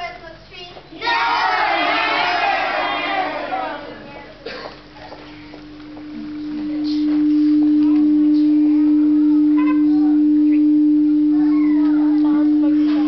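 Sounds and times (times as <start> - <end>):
steady pure tone: 1.0 - 13.0.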